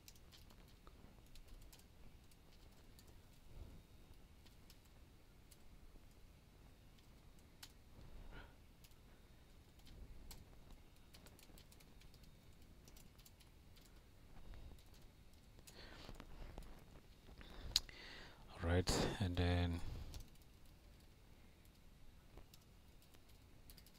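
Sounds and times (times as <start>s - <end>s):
faint keyboard typing: 0.0s - 18.3s, 19.0s - 23.9s.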